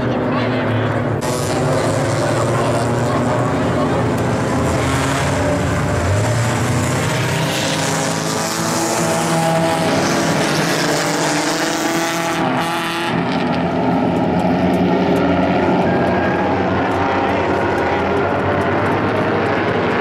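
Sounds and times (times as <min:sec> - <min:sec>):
race car engines passing: 0:00.0 - 0:20.0.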